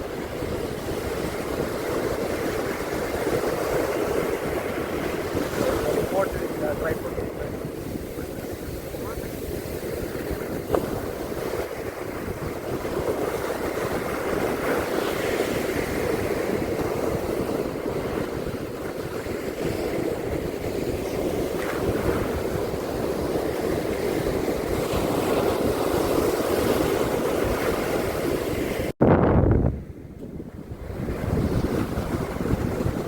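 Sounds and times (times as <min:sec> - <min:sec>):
ocean surf washing on beach: 0:00.0 - 0:28.9, 0:29.7 - 0:33.0
wind rumbling on microphone: 0:00.0 - 0:33.0.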